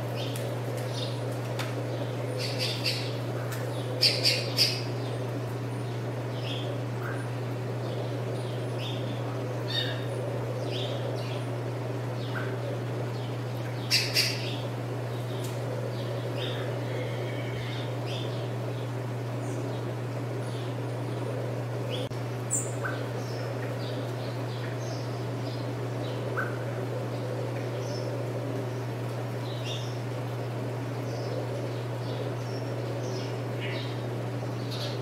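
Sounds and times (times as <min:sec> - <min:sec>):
birds chirping: 0:00.0 - 0:35.0
steady low hum: 0:00.0 - 0:35.0.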